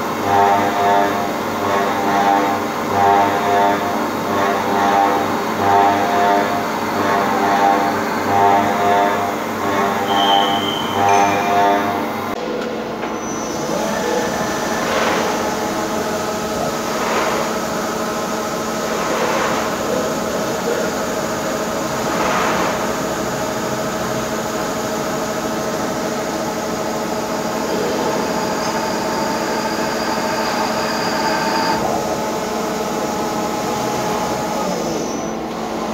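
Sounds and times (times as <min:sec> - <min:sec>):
lathe spindle whine: 0:00.0 - 0:12.4, 0:13.1 - 0:35.9
metal cutting noise: 0:00.1 - 0:12.4, 0:13.2 - 0:35.9.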